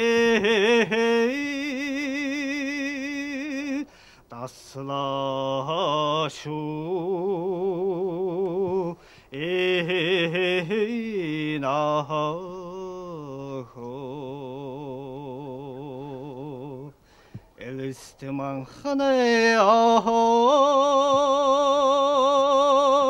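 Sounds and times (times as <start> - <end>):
man singing with vibrato: 0.0 - 17.0, 17.6 - 23.0.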